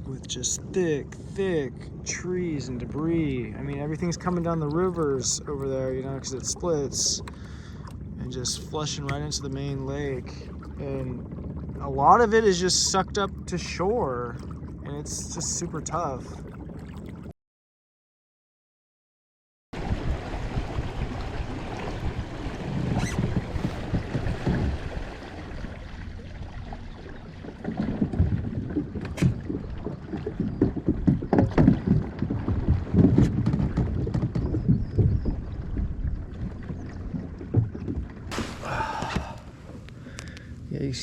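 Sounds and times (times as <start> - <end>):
water sloshing against kayak hull: 0.0 - 17.3, 19.8 - 41.0
wind rumbling on microphone: 0.0 - 17.3, 19.8 - 41.0.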